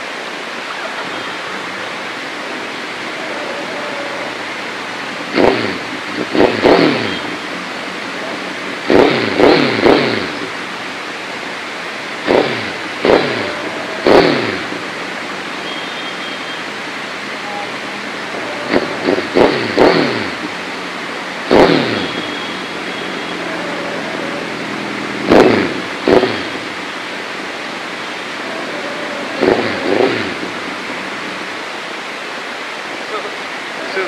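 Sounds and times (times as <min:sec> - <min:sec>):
motorcycle engine revving: 0:01.0 - 0:31.6.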